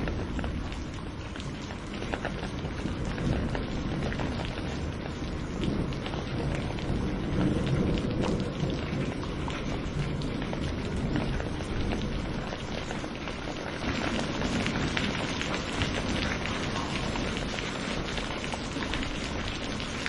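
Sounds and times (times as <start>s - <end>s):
heavy rain: 0.0s - 20.0s
low thunder rumble: 0.0s - 20.0s
raindrops ticking close by: 0.0s - 20.0s.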